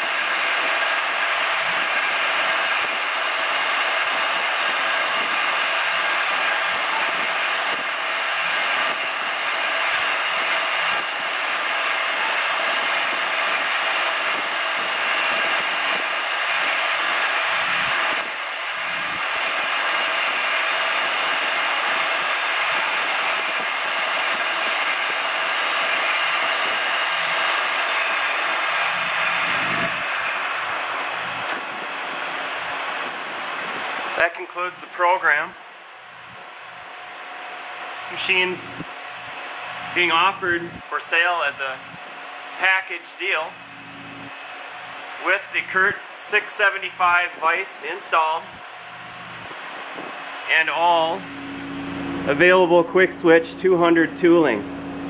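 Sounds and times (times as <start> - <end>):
milling machine motor whine: 0.0 - 55.0.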